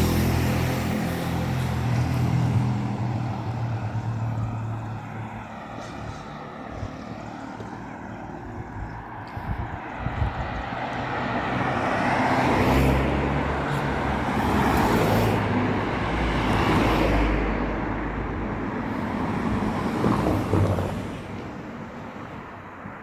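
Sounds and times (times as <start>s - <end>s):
motor vehicle passing: 0.0s - 21.1s.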